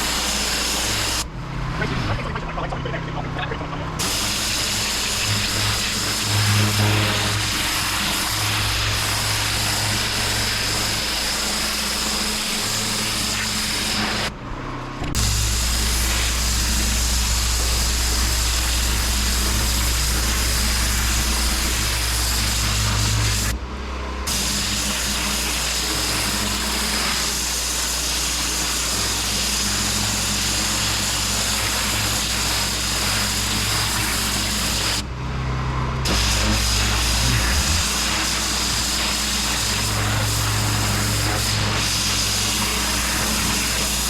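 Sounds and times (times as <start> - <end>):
water jet hissing on paving: 0.0 - 1.2, 4.0 - 14.3, 15.2 - 23.5, 24.3 - 35.0, 36.1 - 44.0
pressure washer engine running: 0.0 - 1.3, 3.8 - 14.4, 15.0 - 35.1, 36.1 - 44.0.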